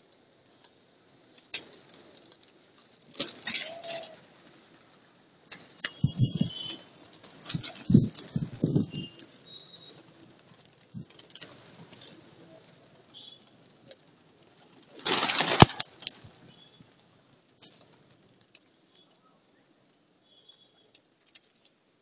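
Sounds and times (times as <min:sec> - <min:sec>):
pigeon wings flapping: 0:01.4 - 0:18.7, 0:20.9 - 0:21.8.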